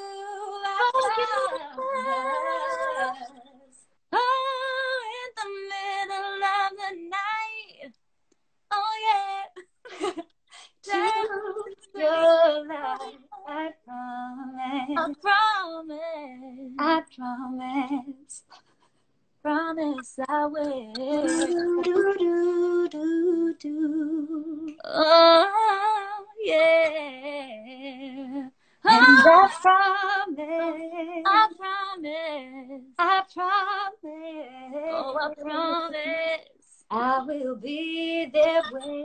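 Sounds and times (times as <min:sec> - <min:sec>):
women singing unaccompanied: 0:00.0 - 0:07.9, 0:10.8 - 0:18.4, 0:19.5 - 0:39.0.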